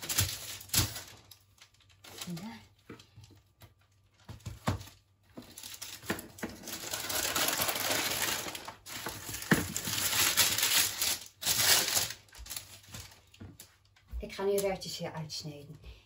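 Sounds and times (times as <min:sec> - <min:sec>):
baking paper rustling and crinkling: 0:00.0 - 0:14.7.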